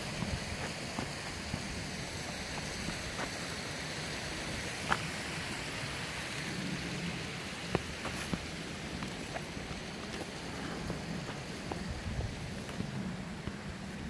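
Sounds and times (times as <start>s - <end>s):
open-air rushing noise: 0.0s - 14.0s.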